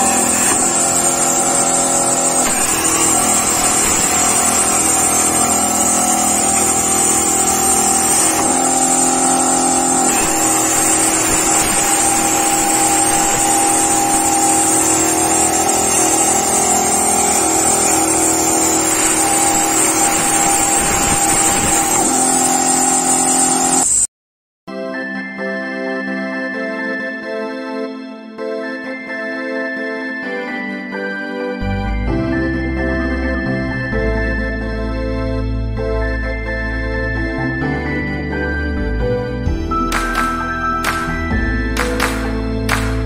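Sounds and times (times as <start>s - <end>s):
steady high tone: 0.0s - 24.1s, 24.7s - 43.0s.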